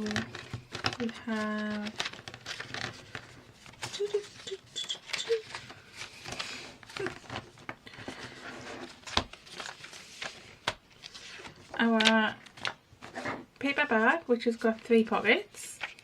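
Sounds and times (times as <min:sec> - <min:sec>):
paper pages rustling: 0:00.0 - 0:16.0.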